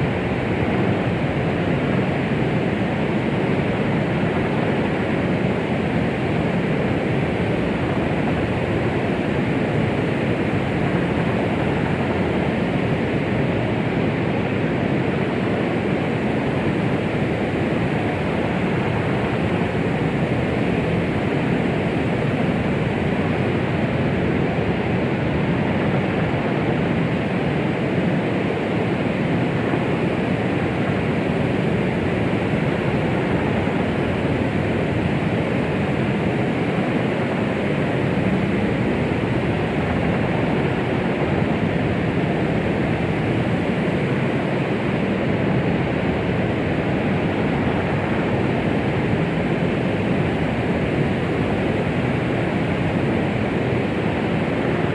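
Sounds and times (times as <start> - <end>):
white noise rushing hiss: 0.0 - 54.9.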